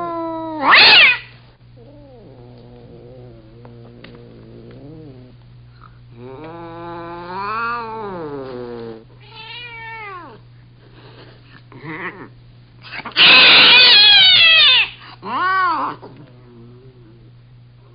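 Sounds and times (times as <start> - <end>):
cats yowling: 0.0 - 5.3, 6.2 - 10.4, 11.8 - 17.3.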